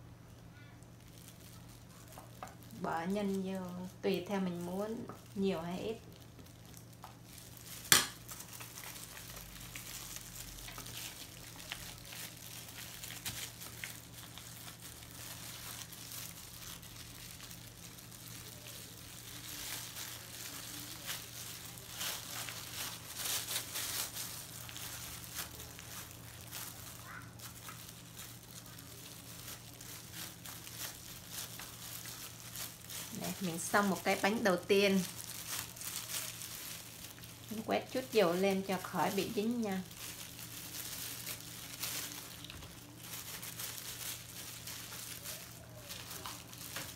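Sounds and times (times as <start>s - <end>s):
plastic gloves crinkling: 0.0s - 46.9s.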